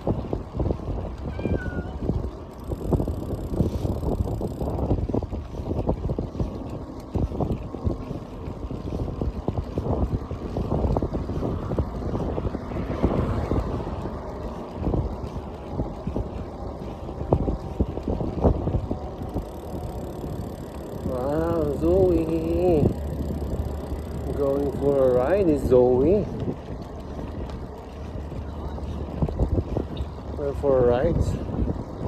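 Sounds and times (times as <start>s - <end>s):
road and vehicle noise: 0.0s - 32.0s
wind buffeting microphone: 0.0s - 32.0s.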